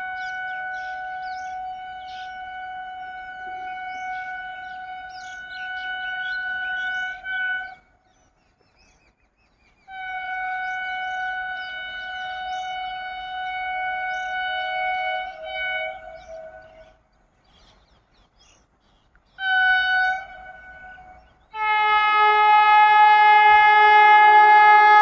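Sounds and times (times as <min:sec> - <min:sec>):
train horn blasts: 0:00.0 - 0:08.2, 0:09.8 - 0:17.0, 0:19.4 - 0:25.0
birds chirping: 0:00.0 - 0:24.9.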